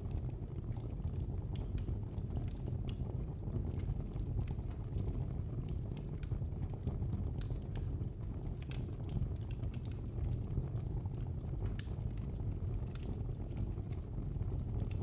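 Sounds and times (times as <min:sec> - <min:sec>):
fire crackling with pops: 0:00.0 - 0:15.0
low rumble of fire: 0:00.0 - 0:15.0.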